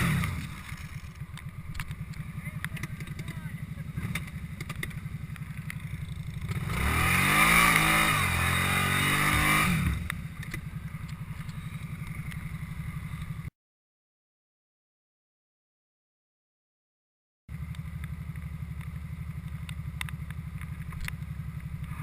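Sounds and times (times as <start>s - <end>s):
atv engine idling and revving: 0.0s - 13.5s, 17.5s - 22.0s.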